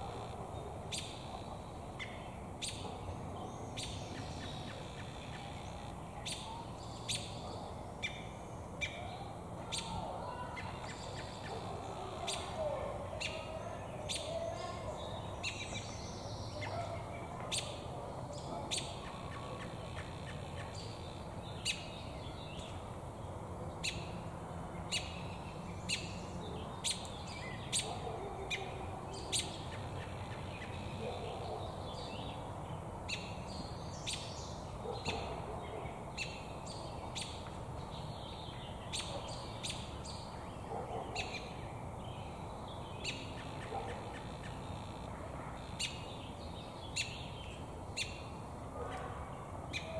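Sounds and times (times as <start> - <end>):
bird chirping: 0.1 - 22.8, 24.9 - 32.5, 33.1 - 48.4.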